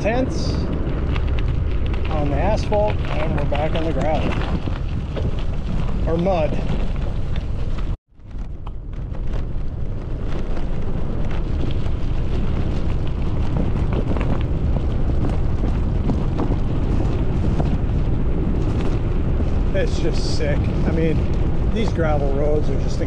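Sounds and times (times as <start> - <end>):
bicycle tyres on gravel: 0.0 - 23.0
wind buffeting microphone: 0.0 - 23.0.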